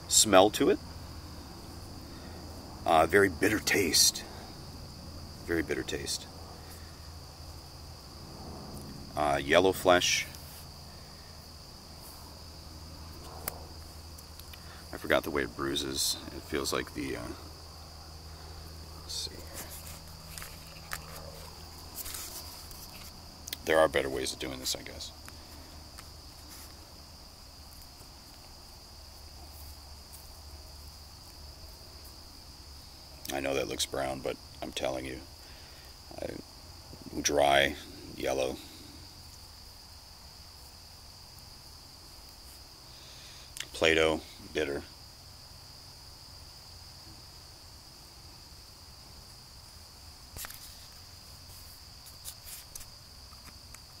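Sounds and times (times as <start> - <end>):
crickets chirping: 0.0 - 54.0
high-pitched insect chorus: 0.0 - 54.0
rustle: 0.0 - 54.0.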